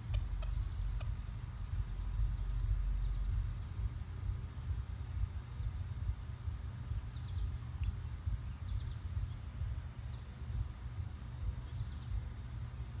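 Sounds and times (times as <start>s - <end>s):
low uneven rumble: 0.0s - 13.0s
small birds chirping: 0.0s - 13.0s.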